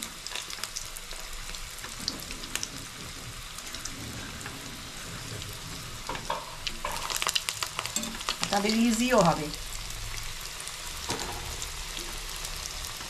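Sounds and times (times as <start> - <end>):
deep-frying sizzle with pops: 0.0 - 13.0.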